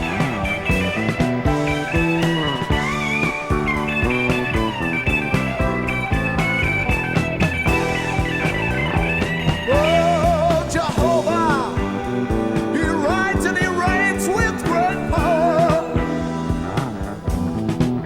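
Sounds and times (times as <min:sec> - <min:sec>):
electric guitar solo: 0:00.0 - 0:17.7
rock band playing: 0:00.0 - 0:18.0.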